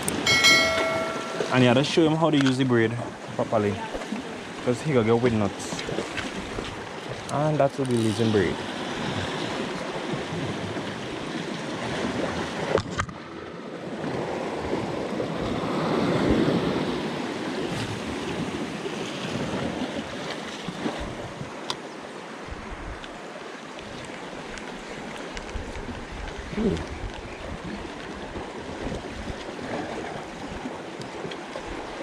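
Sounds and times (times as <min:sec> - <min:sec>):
sea surf breaking on rocks: 0:00.0 - 0:32.0.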